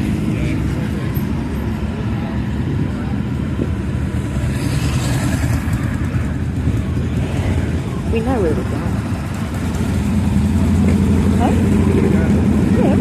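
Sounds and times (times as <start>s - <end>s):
group of motorcycles riding: 0.0s - 13.0s.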